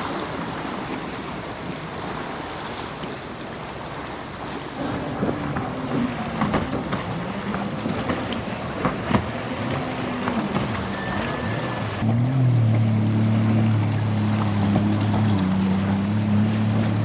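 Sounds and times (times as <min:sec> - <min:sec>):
motorboat engine revving: 0:00.0 - 0:17.0
surf: 0:00.0 - 0:17.0
wind: 0:00.0 - 0:17.0.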